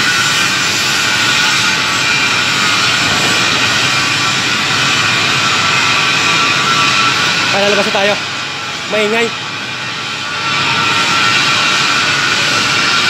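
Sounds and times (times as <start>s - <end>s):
welding and grinding roar: 0.0s - 13.0s.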